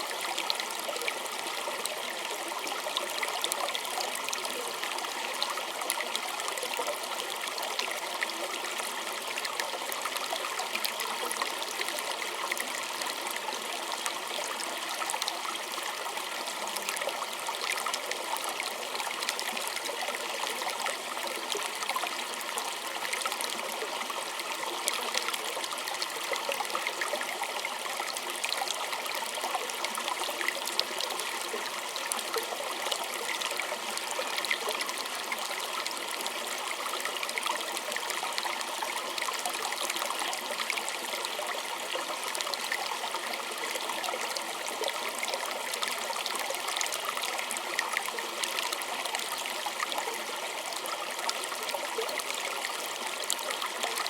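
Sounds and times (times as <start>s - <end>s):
stream burbling over stones: 0.0s - 54.0s.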